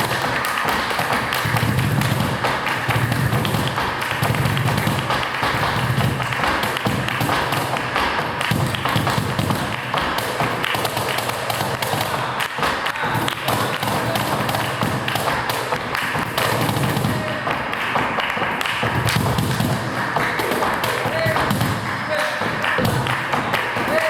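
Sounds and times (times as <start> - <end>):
cajon drumming: 0.0 - 24.0.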